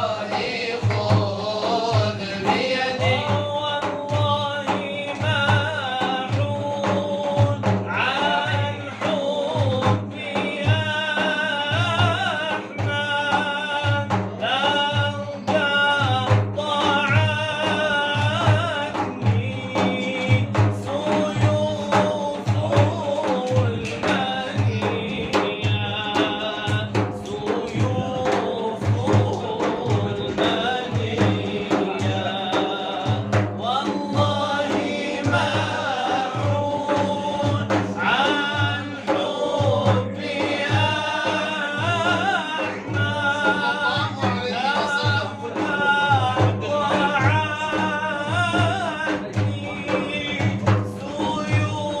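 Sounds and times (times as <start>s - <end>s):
low drum beat: 0.0s - 52.0s
men singing devotional song: 0.0s - 52.0s.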